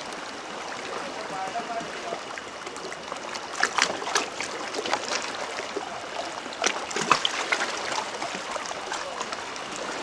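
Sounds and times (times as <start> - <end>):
sea water splashing: 0.0 - 10.0.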